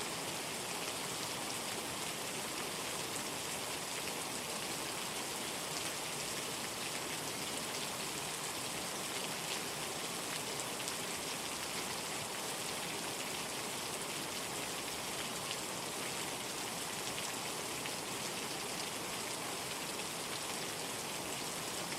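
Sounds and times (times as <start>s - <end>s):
rain falling: 0.1s - 21.9s.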